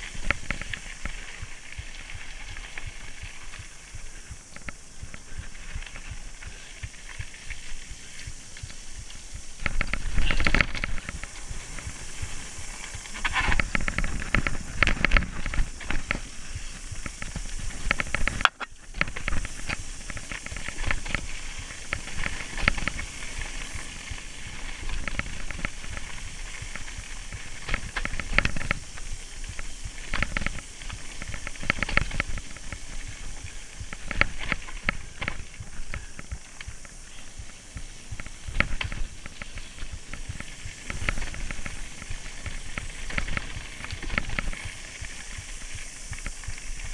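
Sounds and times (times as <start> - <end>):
bike clattering over bumps: 0.0 - 46.9
tyre and wind hiss: 0.0 - 46.9.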